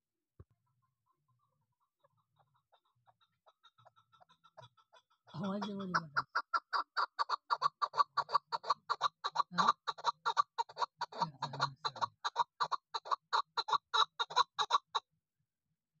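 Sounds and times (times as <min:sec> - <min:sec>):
partridge clucking call: 0:02.0 - 0:15.0.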